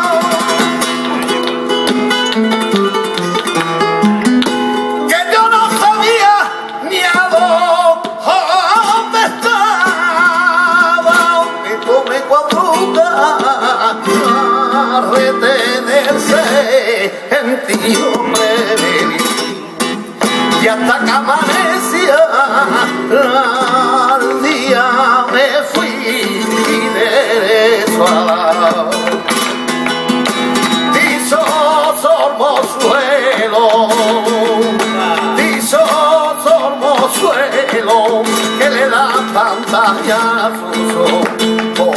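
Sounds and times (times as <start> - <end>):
man singing: 0.0 - 1.3, 4.8 - 29.6, 30.5 - 41.9
hand clapping: 0.0 - 17.1, 17.7 - 41.9
flamenco guitar: 0.0 - 41.9.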